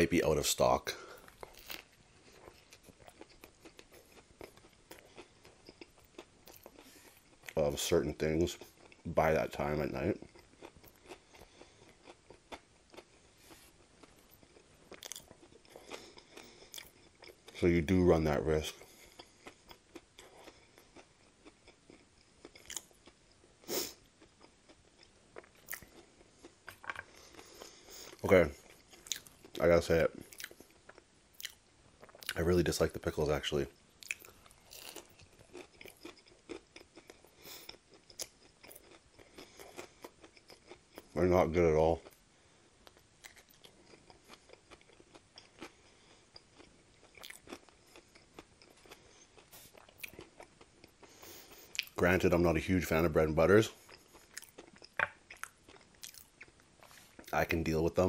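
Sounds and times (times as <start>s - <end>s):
close chewing with mouth clicks: 1.1s - 7.6s, 10.2s - 17.6s, 18.6s - 29.6s, 30.2s - 32.5s, 34.0s - 41.2s, 42.8s - 52.0s, 53.7s - 57.4s.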